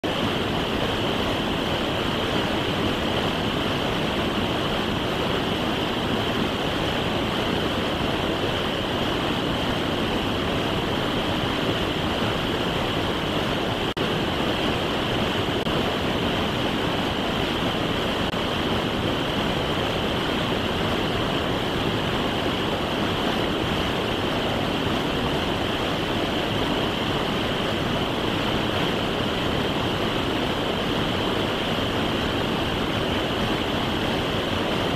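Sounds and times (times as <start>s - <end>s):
creek rushing over boulders: 0.0s - 34.9s.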